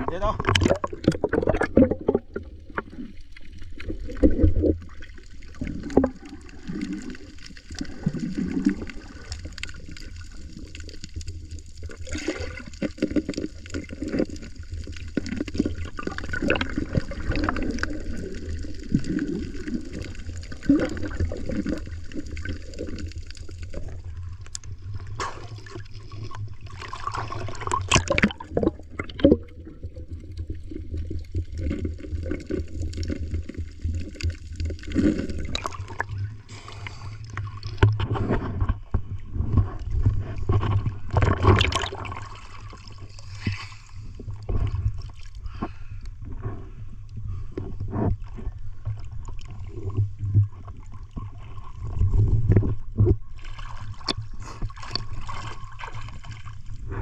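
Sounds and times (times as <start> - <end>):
water gurgling and bubbling: 0.0 - 45.6, 46.3 - 57.0
underwater rumble of water: 0.0 - 57.0.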